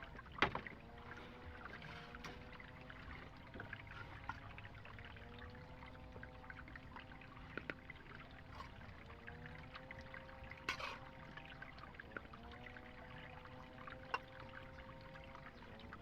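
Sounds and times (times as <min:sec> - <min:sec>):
faint wavering hum: 0:00.0 - 0:16.0
water trickling and dripping: 0:00.0 - 0:16.0.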